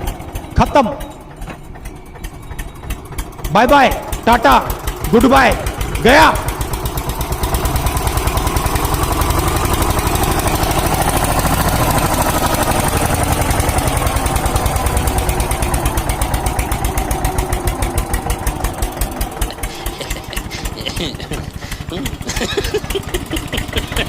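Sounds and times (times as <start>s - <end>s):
tractor diesel engine chugging: 0.0s - 24.0s.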